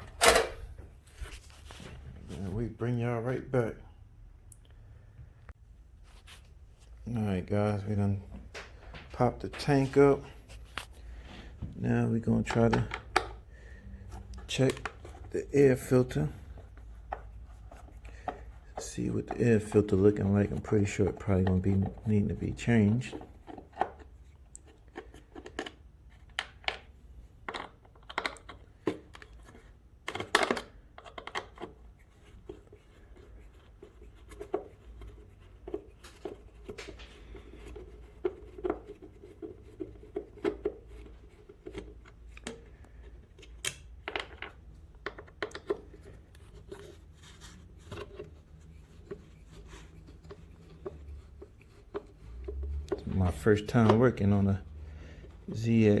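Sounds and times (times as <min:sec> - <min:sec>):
clicks taps and scrapes of tools: 0:08.1 - 0:13.5, 0:14.1 - 0:55.4.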